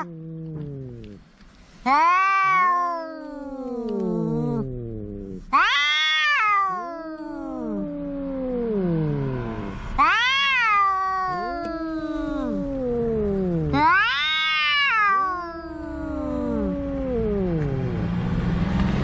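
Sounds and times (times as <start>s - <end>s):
cats yowling: 0.0s - 1.2s, 1.8s - 18.1s.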